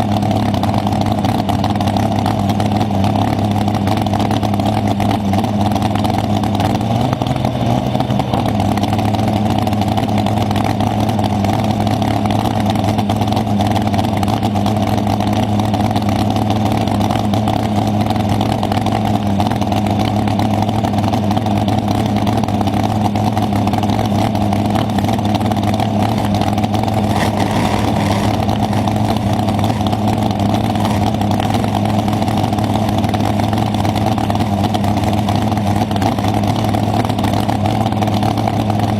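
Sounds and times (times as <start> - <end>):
dragster engine idling: 0.0 - 38.9.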